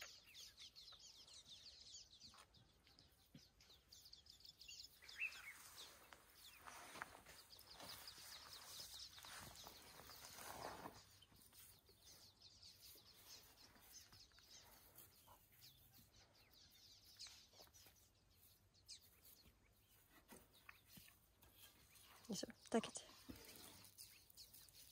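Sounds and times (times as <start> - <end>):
distant bird calls: 0.0 - 24.9.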